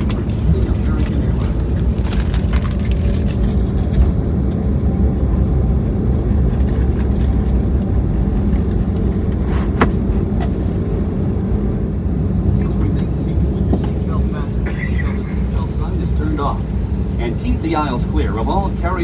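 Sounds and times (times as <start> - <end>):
airplane cabin low rumble: 0.0 - 19.0.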